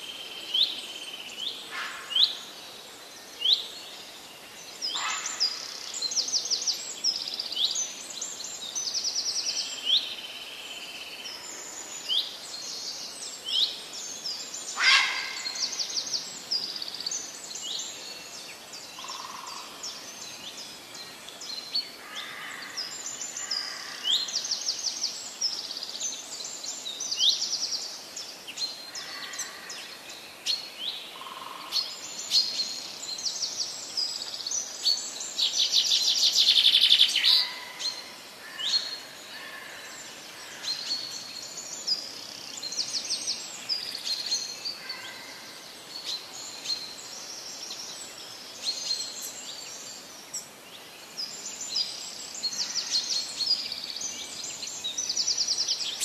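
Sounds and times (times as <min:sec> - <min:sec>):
background hiss: 0:00.0 - 0:56.0
birds singing and chirping: 0:00.0 - 0:56.0.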